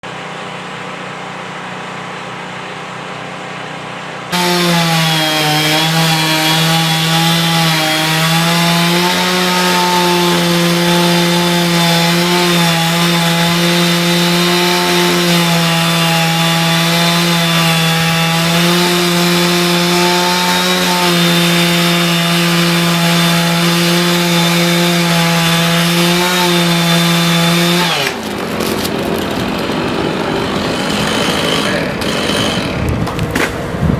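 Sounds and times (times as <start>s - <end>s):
chainsaw cutting wood: 4.3s - 33.6s.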